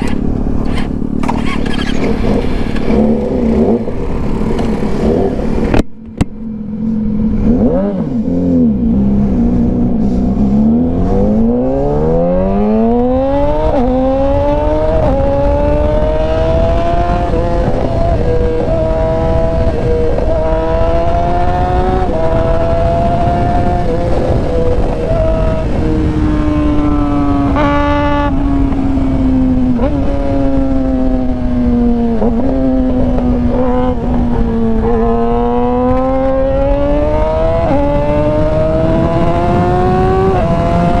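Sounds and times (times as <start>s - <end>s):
motorcycle accelerating through gears: 0.0s - 41.0s
motorcycle engine revving: 0.0s - 41.0s.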